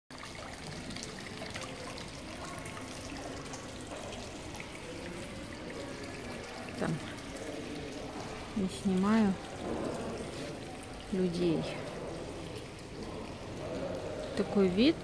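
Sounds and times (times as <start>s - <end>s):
fountain bubbling and trickling: 0.1s - 15.0s.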